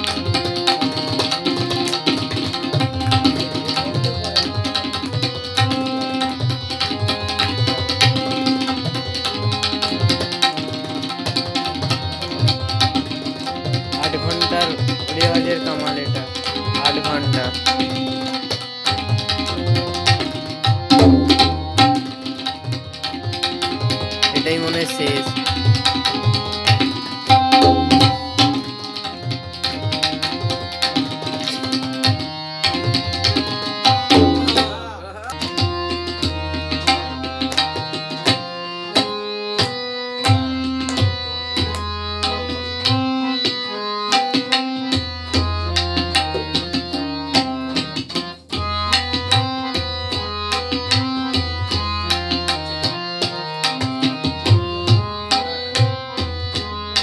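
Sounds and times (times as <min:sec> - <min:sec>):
harmonium melody loop: 0:00.0 - 0:57.0
tabla drumming: 0:00.0 - 0:57.0.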